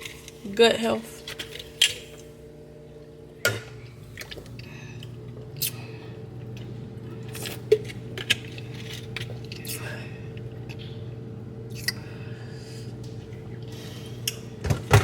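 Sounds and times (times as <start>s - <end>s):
hum of water being heated: 0.0s - 15.0s.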